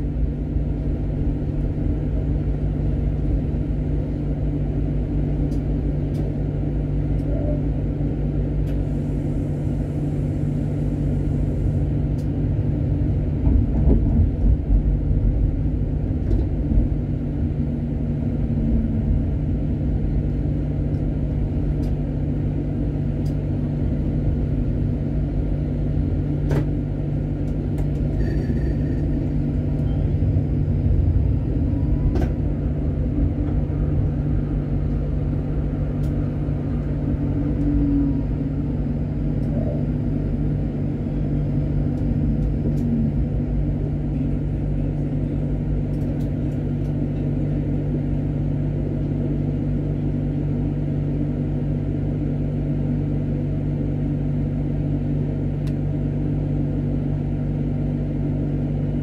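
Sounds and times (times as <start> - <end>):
low even hum: 0.0 - 59.0
tram wheels rumbling on rails: 0.0 - 59.0.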